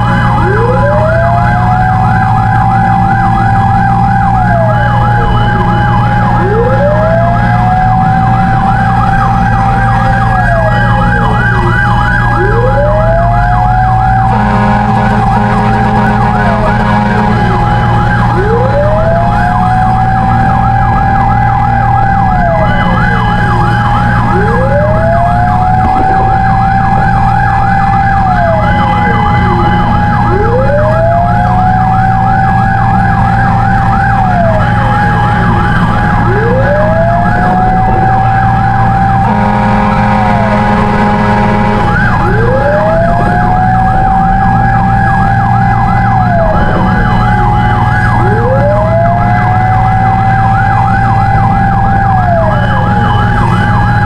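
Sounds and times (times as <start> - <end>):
fast yelping siren: 0.0 - 54.0
slow wailing siren: 0.0 - 54.0
truck engine running: 0.0 - 54.0.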